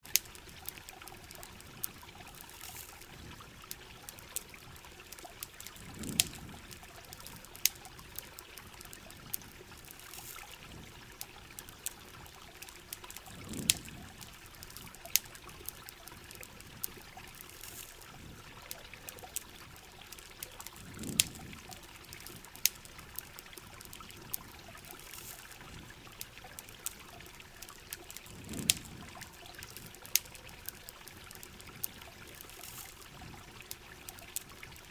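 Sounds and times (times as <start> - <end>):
campfire crackling and popping: 0.0 - 34.9
water trickling and pouring: 0.0 - 34.9.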